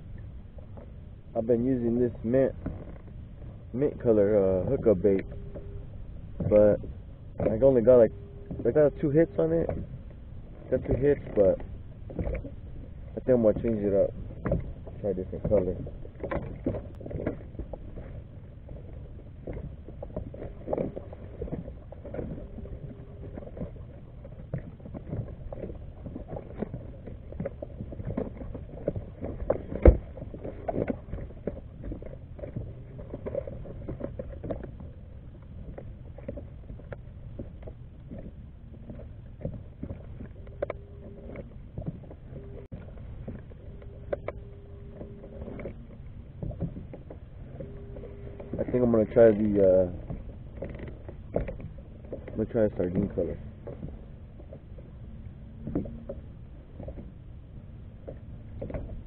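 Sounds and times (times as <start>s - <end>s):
low steady rumble: 0.0s - 59.0s.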